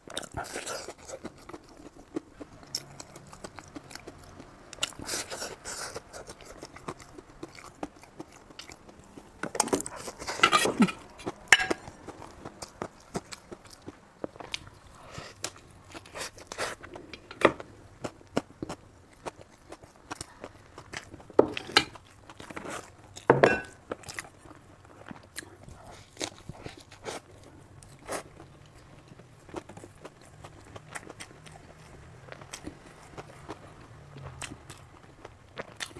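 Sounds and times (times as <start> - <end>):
crunching bites and chewing: 0.0 - 35.9.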